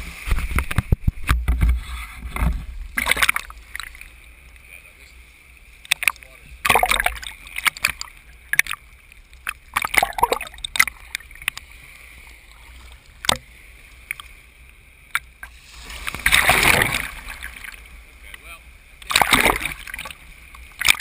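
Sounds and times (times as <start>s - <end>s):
wave washing over camera: 0.0s - 5.2s, 5.8s - 14.3s, 15.1s - 21.0s
small waves splashing: 0.0s - 21.0s.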